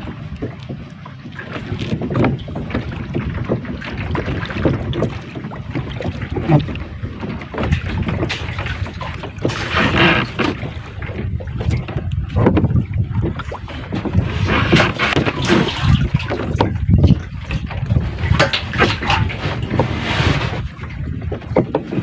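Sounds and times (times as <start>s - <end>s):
water splashing against hull: 0.0s - 22.0s.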